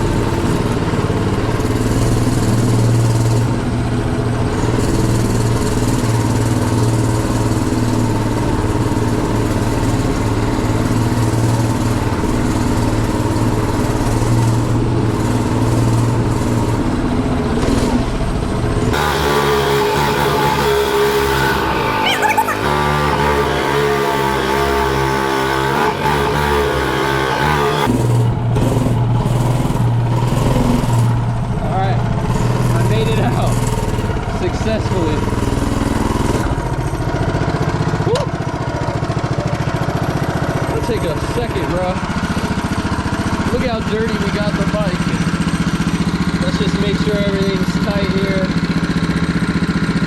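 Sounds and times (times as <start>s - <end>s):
small bike engine running: 0.0s - 50.0s.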